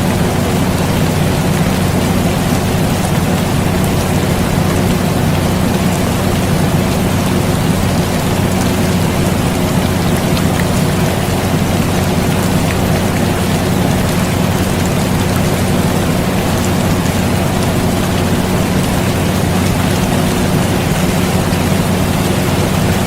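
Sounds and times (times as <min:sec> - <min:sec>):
air conditioner hum: 0:00.0 - 0:23.0
steady rain: 0:00.0 - 0:23.0.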